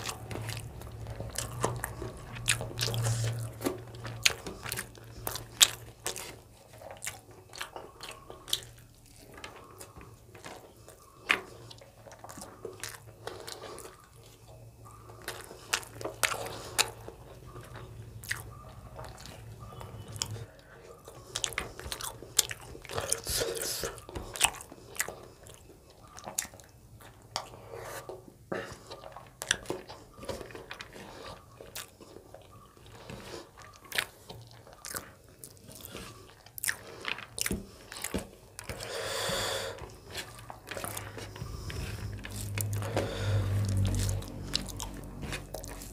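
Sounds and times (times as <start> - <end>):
faint low hum: 0.0 - 45.9
person chewing food: 0.0 - 45.9.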